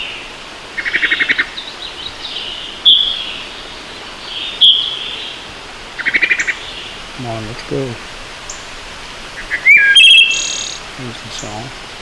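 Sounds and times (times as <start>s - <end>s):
thrush calling: 0.0s - 12.0s.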